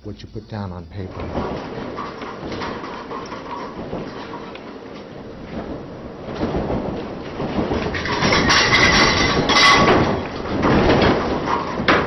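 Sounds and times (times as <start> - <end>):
building rattling and clattering: 0.6 - 12.0.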